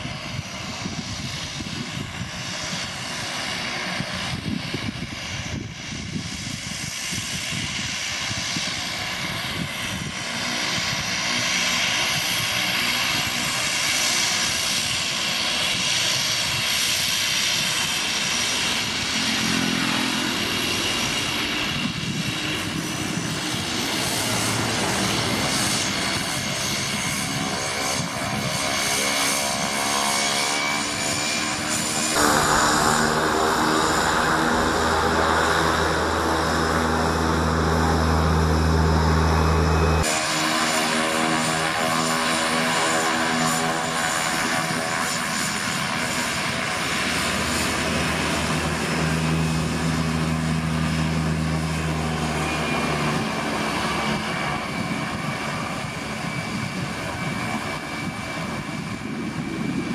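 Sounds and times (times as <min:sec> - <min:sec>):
propeller drone: 0:00.0 - 0:59.9
turboprop engine whine: 0:00.0 - 0:59.9.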